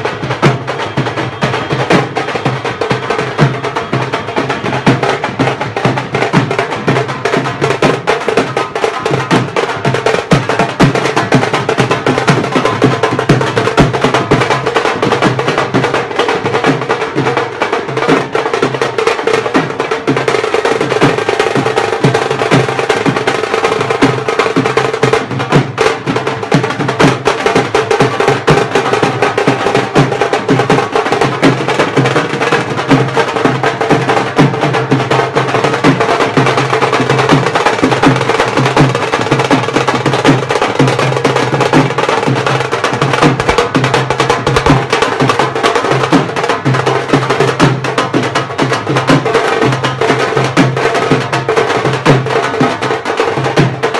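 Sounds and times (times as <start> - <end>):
dhol drumming: 0.0 - 53.9.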